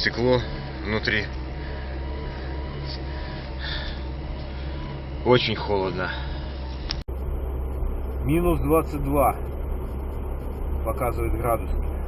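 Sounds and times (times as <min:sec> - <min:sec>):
car engine rumble inside cabin: 0:00.0 - 0:12.0
faint steady whine: 0:00.0 - 0:12.0.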